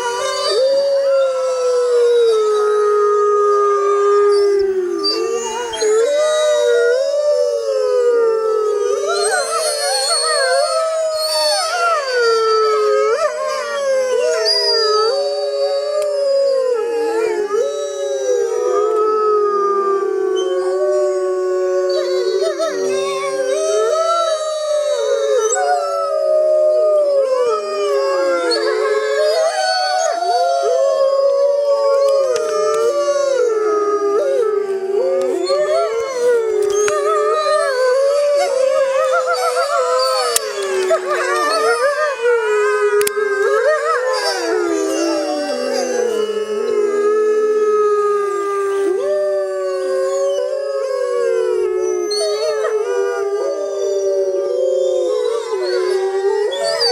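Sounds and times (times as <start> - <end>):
wolves howling: 0.0 - 56.9.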